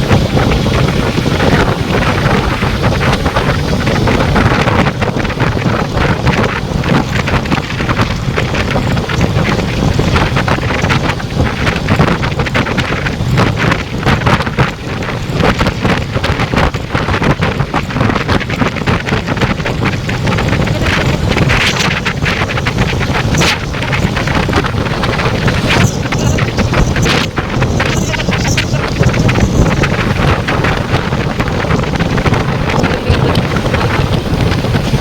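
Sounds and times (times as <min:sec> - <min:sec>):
motorcycle engine and road noise: 0:00.0 - 0:35.0
wind buffeting microphone: 0:00.0 - 0:35.0.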